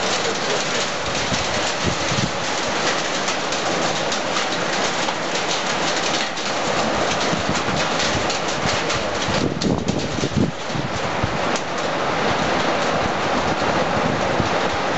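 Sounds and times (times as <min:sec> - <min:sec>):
heavy rain and hail pattering: 0:00.0 - 0:14.9
wind buffeting microphone: 0:00.0 - 0:14.9.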